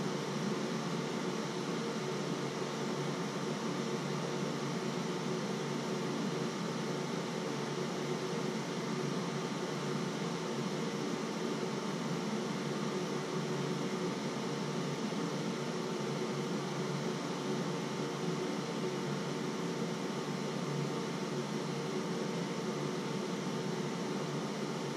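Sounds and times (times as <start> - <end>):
steady hum and hiss: 0.0 - 24.9.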